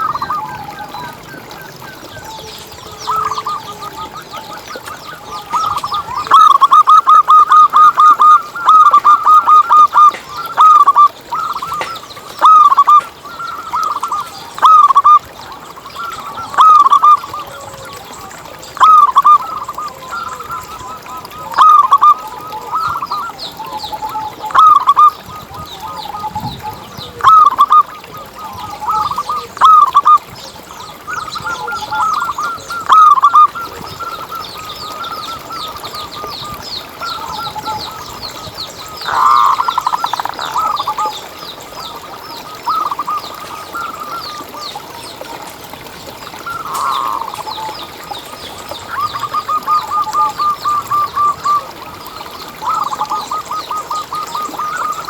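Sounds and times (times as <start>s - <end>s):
dove cooing: 0.0s - 30.2s, 31.0s - 36.3s, 37.0s - 44.6s, 46.3s - 47.7s.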